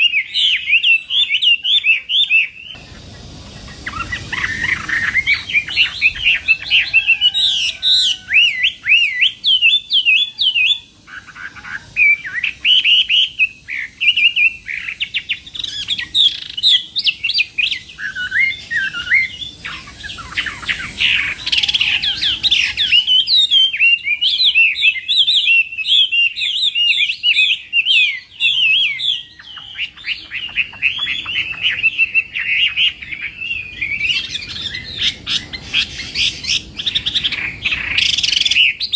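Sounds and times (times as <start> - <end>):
bird singing whistled notes: 0.0 - 38.9.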